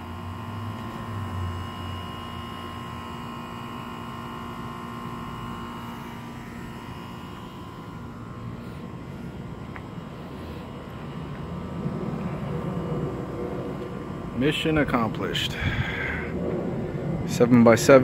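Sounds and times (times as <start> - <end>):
faint steady tones: 0.0 - 18.0
low mechanical hum: 0.0 - 18.0.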